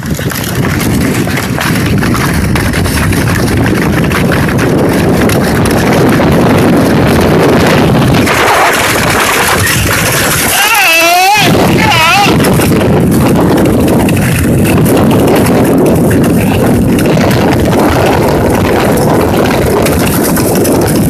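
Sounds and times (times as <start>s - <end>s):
sled scraping over ice: 0.0s - 21.0s
wind buffeting microphone: 0.0s - 21.0s.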